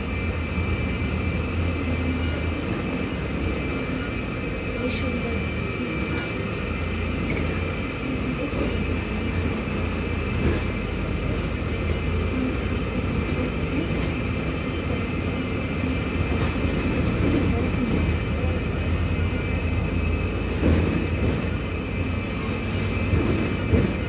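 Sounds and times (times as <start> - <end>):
bus interior low drone: 0.0 - 24.0.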